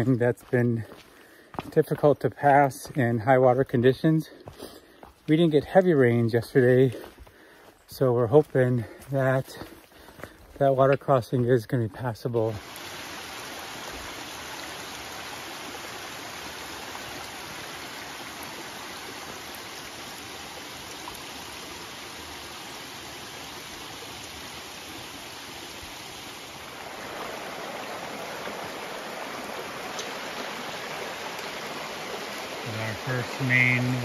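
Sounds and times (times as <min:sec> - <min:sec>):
stream flowing over stones: 0:00.0 - 0:07.2, 0:08.0 - 0:34.0.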